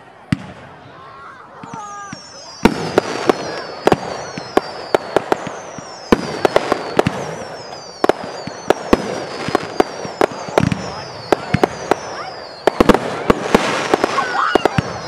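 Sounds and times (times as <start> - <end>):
fireworks bangs: 0.0 - 15.0
firework whistles sliding down: 1.7 - 15.0.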